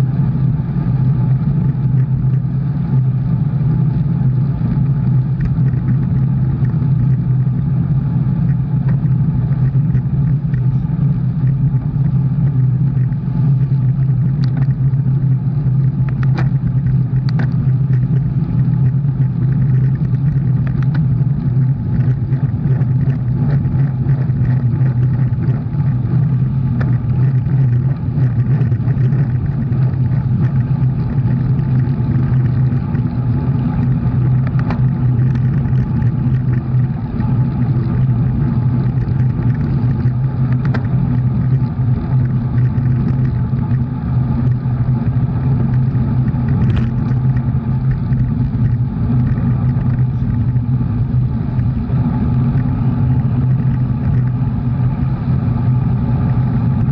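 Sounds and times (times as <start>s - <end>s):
road rumble: 0.0s - 56.9s
vehicle engine hum: 0.0s - 56.9s.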